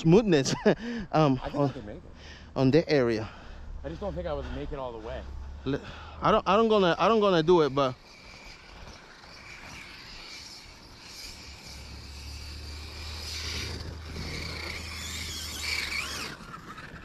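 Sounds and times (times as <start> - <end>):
faint outdoor background noise: 0.0 - 17.0
low engine hum: 0.0 - 17.0.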